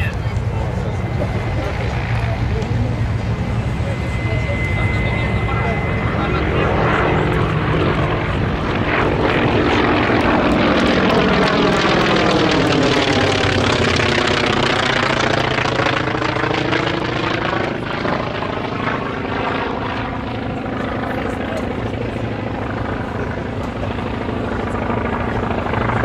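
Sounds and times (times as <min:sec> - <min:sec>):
propeller plane engine droning: 0:00.0 - 0:26.0.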